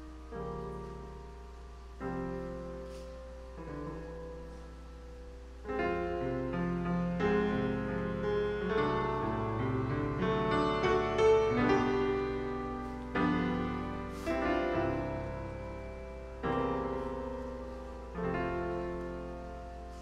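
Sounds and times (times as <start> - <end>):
grand piano chords: 0.0 - 20.0.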